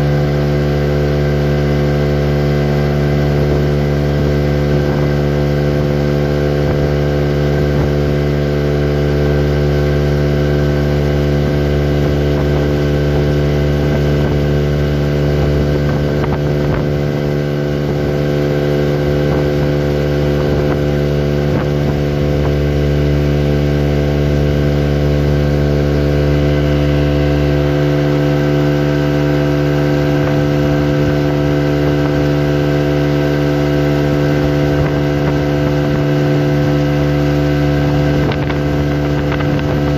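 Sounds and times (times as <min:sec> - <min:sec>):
boat motor drone: 0:00.0 - 0:39.9.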